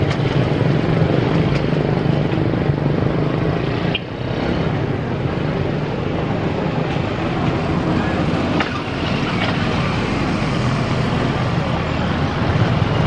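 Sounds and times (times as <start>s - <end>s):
motorcycles and scooters passing: 0.0s - 13.0s.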